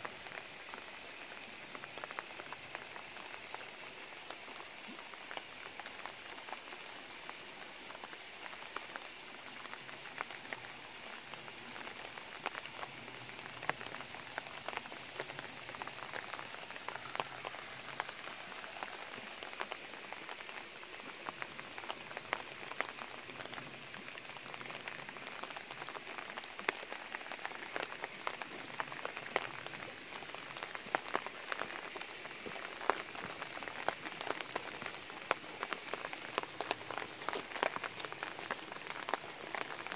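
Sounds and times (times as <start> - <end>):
light rain falling: 0.0 - 39.9
raindrops ticking: 0.0 - 39.9.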